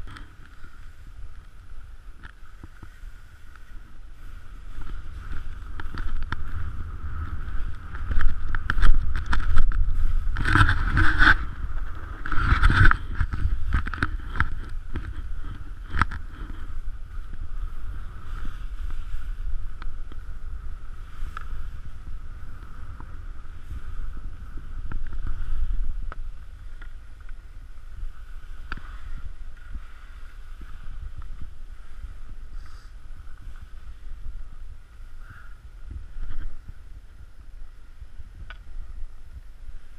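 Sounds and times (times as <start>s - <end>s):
skis scraping over snow: 0.0s - 39.9s
wind on microphone: 0.0s - 39.9s.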